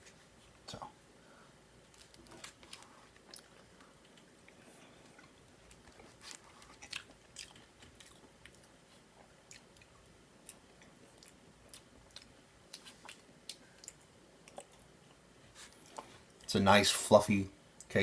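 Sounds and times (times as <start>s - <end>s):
person chewing cake: 1.9s - 16.5s.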